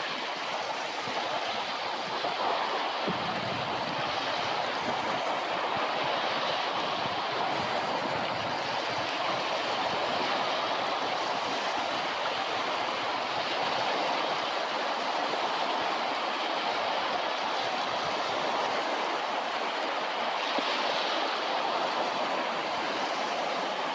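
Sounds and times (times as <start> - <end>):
ocean surf washing onto beach: 0.0 - 23.9.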